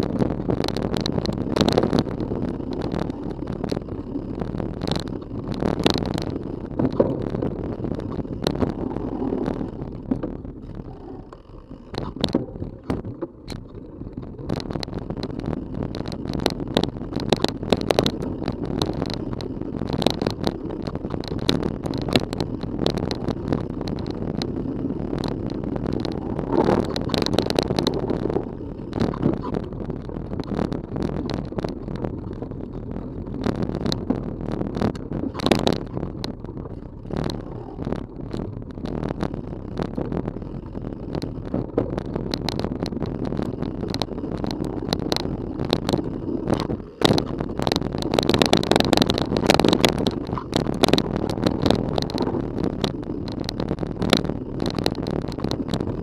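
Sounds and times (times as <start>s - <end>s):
bike frame rattling over bumps: 0.0s - 56.0s
bike tyres rumbling on dirt: 0.0s - 56.0s.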